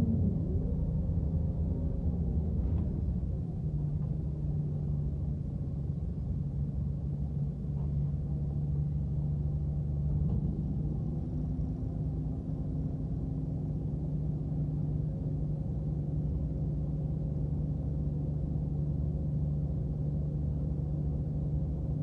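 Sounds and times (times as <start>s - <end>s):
bus engine idling hum: 0.0s - 22.0s.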